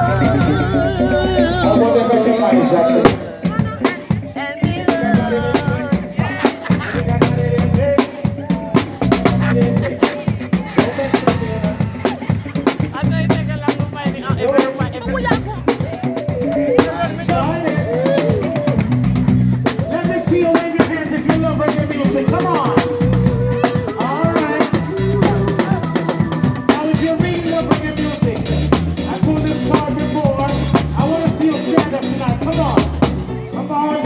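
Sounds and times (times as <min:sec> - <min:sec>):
pulsing bass line: 0:00.0 - 0:03.9, 0:04.7 - 0:08.0, 0:08.6 - 0:13.8, 0:14.9 - 0:19.7, 0:21.3 - 0:33.5
drum kit beat: 0:00.0 - 0:34.0
live band music: 0:00.0 - 0:34.0.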